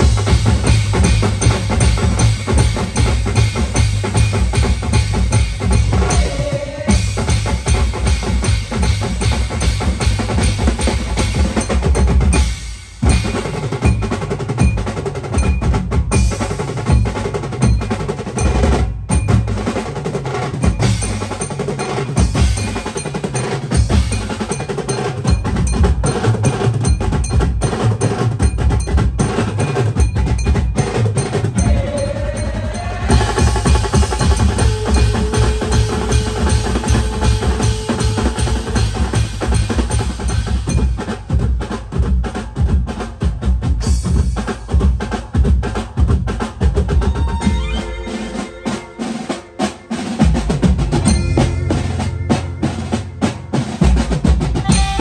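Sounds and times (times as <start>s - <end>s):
band playing fast drum groove: 0.0s - 55.0s.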